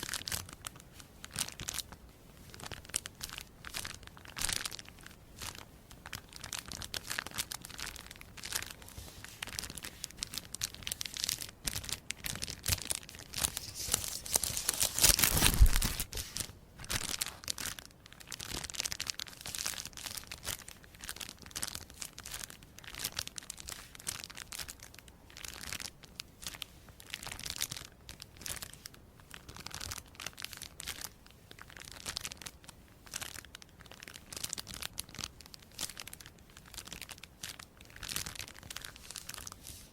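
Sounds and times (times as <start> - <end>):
crisp material crinkling and tearing: 0.0 - 39.9.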